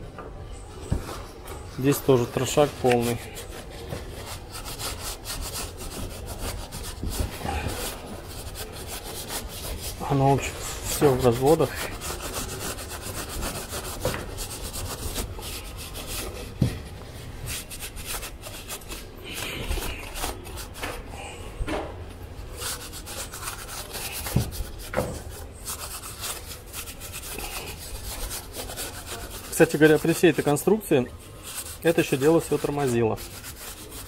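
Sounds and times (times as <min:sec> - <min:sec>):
rubbing and scraping: 0:00.0 - 0:34.0.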